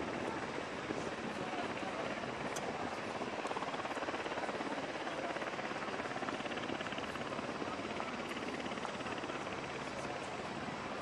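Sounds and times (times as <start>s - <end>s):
helicopter rotor beating: 0.0s - 11.0s.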